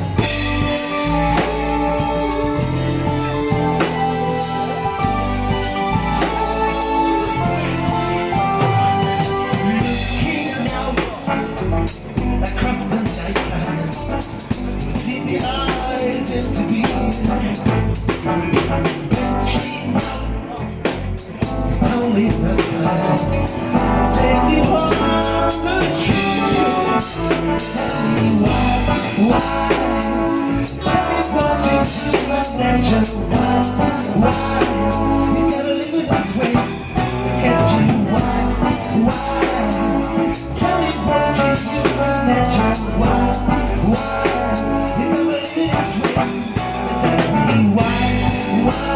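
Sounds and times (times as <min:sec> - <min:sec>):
band playing blues: 0:00.0 - 0:48.9.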